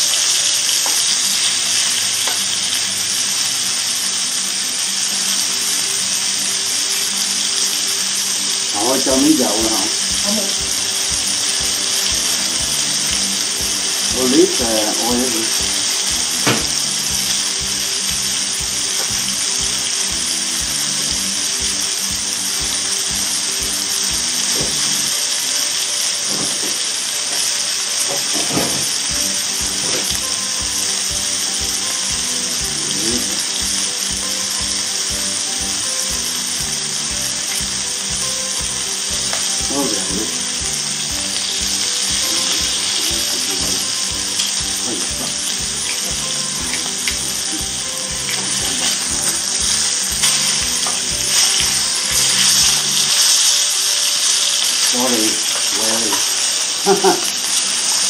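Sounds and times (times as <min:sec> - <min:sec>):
background music with steady beat: 0:00.0 - 0:58.0
meat sizzling in a frying pan: 0:00.0 - 0:58.0.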